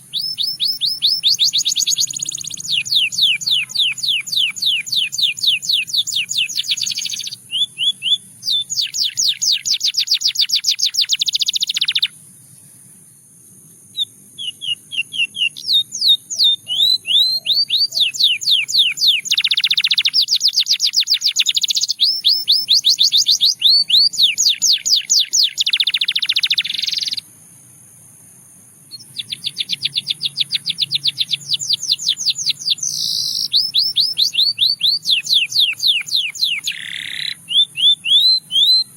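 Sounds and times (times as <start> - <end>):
canary singing fast trills: 0.0 - 12.9, 13.8 - 27.4, 28.9 - 38.9.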